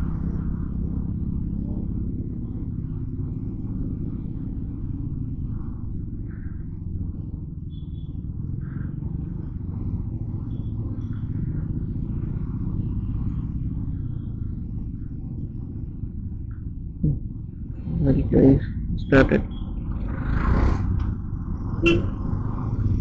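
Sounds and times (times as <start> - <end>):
motorcycle engine rumbling: 0.0 - 23.0.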